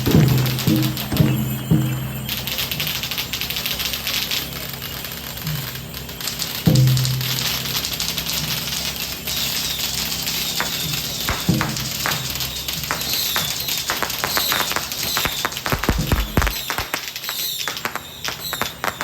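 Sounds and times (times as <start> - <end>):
deep firework bangs: 0.0 - 3.6, 6.6 - 19.0
fireworks crackling and popping: 0.0 - 19.0.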